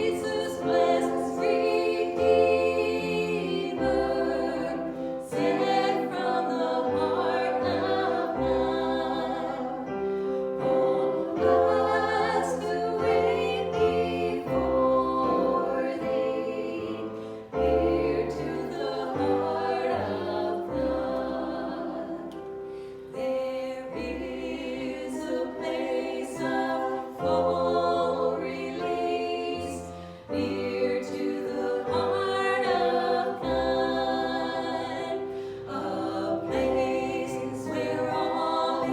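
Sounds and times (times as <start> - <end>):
choir singing slow song: 0.0 - 38.9.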